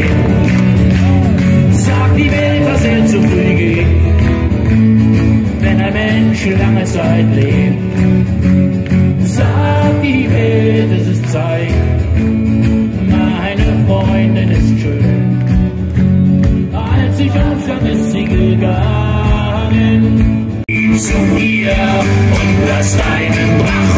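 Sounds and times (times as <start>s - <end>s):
man singing: 0.0s - 4.2s, 5.5s - 8.1s, 9.2s - 12.1s, 12.9s - 15.4s, 16.6s - 23.9s
acoustic guitars strummed: 0.0s - 23.9s.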